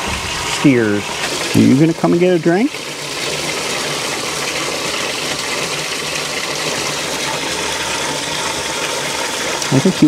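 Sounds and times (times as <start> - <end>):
water running into trough: 0.0 - 10.0.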